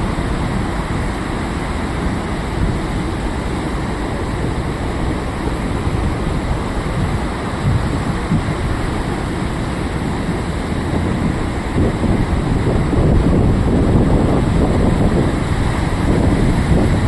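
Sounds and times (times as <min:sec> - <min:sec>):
rough surf waves breaking: 0:00.0 - 0:17.0
wind buffeting microphone: 0:00.0 - 0:17.0.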